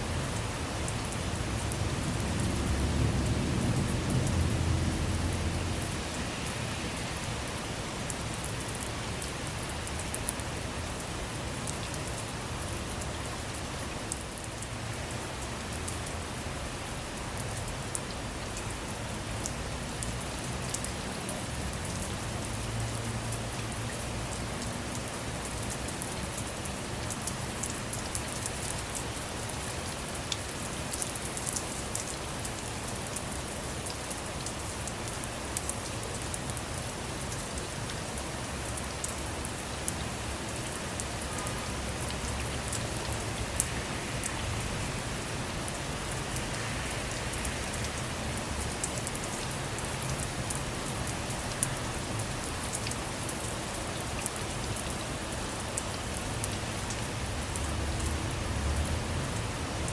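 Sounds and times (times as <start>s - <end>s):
rain on a car roof: 0.0s - 59.9s.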